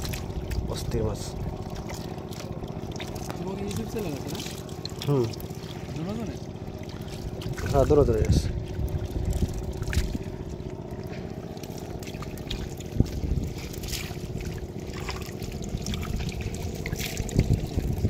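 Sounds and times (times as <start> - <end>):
muddy water sloshing: 0.0 - 18.0
small splashes: 0.0 - 18.0
steady low hum: 0.0 - 18.0.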